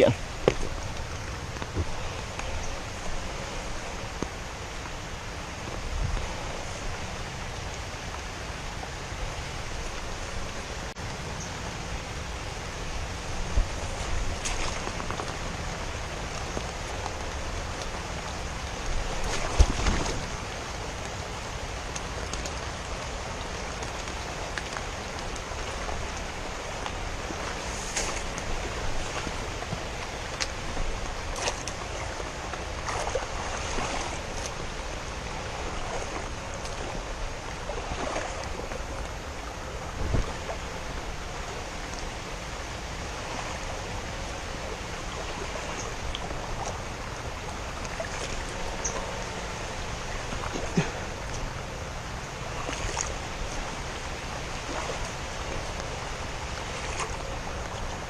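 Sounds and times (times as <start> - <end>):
rain falling on water: 0.0 - 58.0
wading splashes: 0.0 - 58.0.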